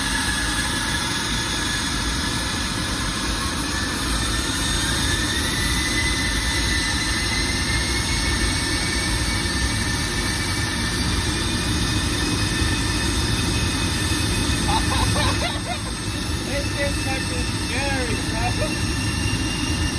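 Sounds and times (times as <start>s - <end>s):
jet engines with rising whine: 0.0s - 19.9s.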